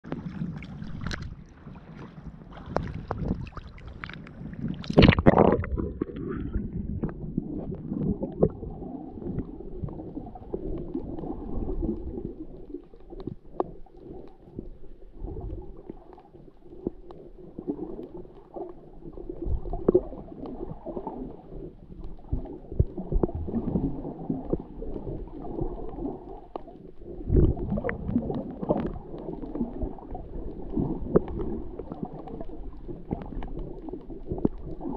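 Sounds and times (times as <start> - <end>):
muffled underwater gurgling: 0.0 - 34.9
water sloshing and splashing: 0.0 - 34.9.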